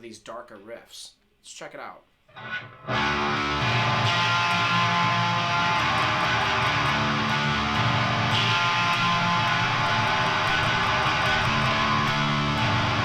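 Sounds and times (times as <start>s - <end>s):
distorted electric guitar riff: 2.3s - 13.0s.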